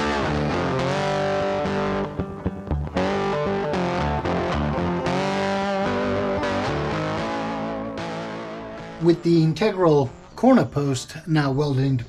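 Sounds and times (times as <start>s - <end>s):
bass guitar: 0.0s - 10.5s
distorted electric guitar: 0.0s - 10.8s.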